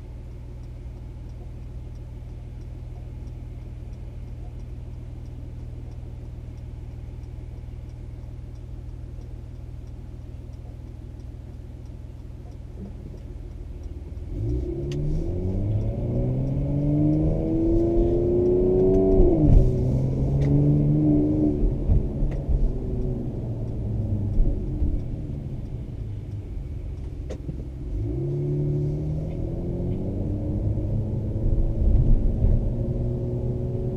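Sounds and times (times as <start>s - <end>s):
car engine accelerating: 0.7s - 33.9s.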